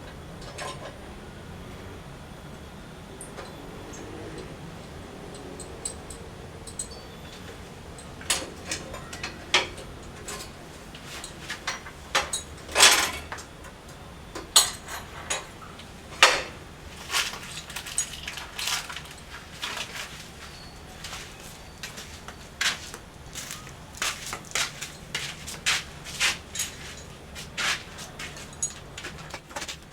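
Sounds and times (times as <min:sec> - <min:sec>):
metal parts and tools clinking: 0:03.2 - 0:22.2, 0:24.5 - 0:29.7.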